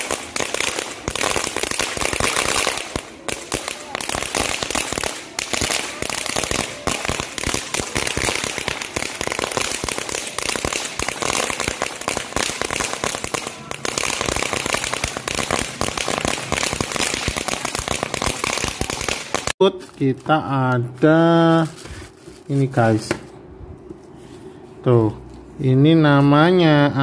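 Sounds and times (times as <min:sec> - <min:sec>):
fireworks fountain crackling: 0:00.0 - 0:23.2.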